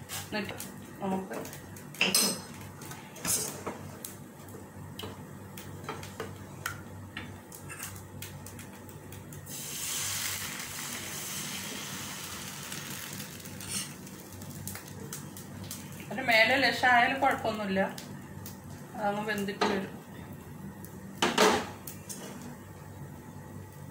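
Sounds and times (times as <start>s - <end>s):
batter sizzling in a frying pan: 0.0s - 19.9s.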